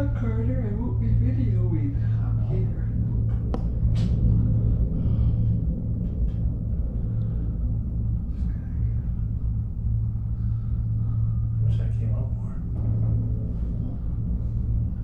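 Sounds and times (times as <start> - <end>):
gondola cabin rumble and hum: 0.0 - 15.0.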